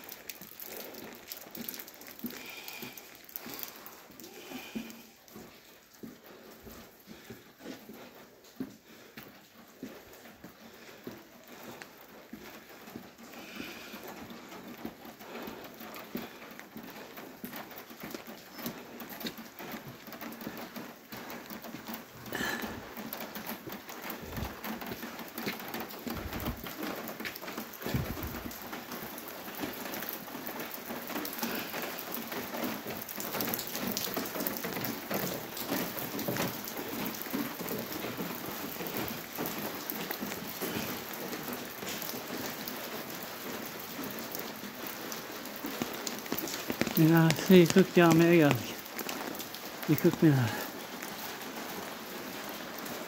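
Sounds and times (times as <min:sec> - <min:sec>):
rain on hard surfaces: 0:00.0 - 0:53.0.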